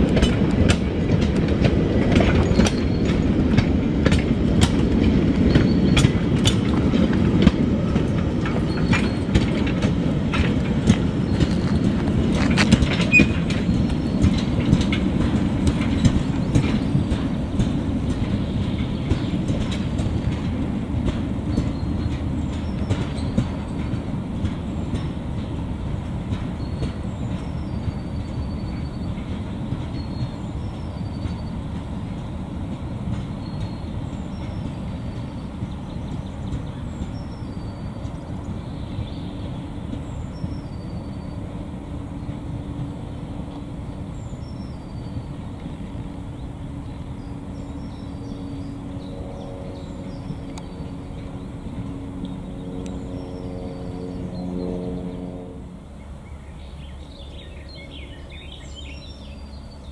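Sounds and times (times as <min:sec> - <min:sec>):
wheels clicking on track: 0:00.0 - 0:54.7
train rolling on track: 0:00.0 - 0:59.9.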